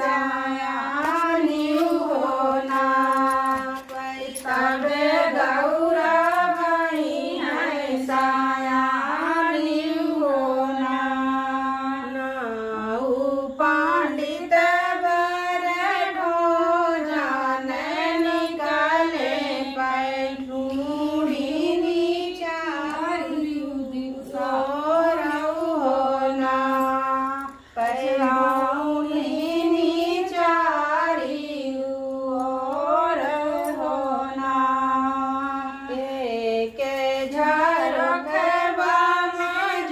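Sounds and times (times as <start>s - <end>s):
women singing unaccompanied: 0.0s - 39.9s.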